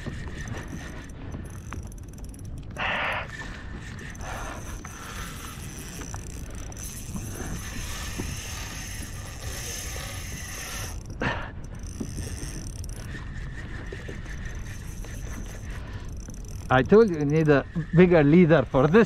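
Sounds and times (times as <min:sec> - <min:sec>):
fishing reel whirring and clicking: 0:00.0 - 0:19.0
wind on microphone: 0:00.0 - 0:19.0.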